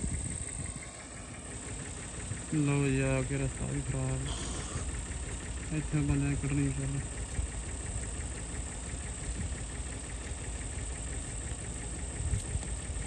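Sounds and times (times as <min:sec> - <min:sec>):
engine idling with low rumble: 0:00.0 - 0:13.0.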